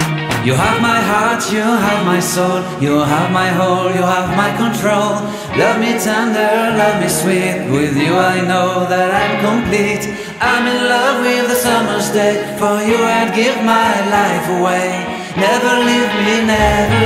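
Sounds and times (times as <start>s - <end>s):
song with singing voice: 0.0s - 17.0s.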